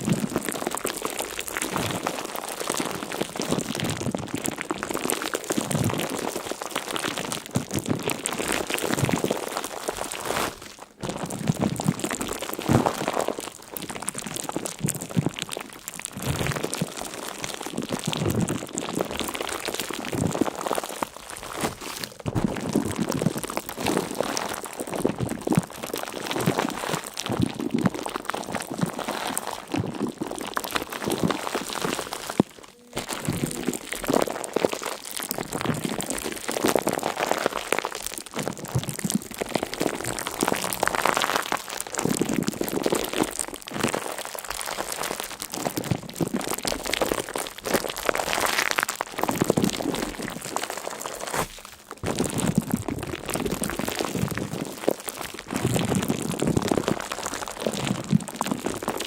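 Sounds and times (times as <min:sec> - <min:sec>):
dense crackling and crunching: 0:00.0 - 0:59.0.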